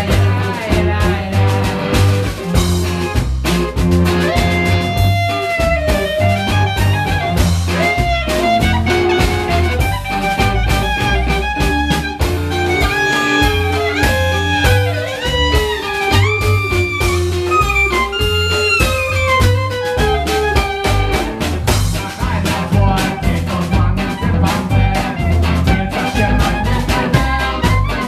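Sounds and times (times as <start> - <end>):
drums keeping a steady beat: 0.0 - 28.0
lead instrument melody with slides: 0.0 - 28.0
walking bass line: 0.0 - 28.0.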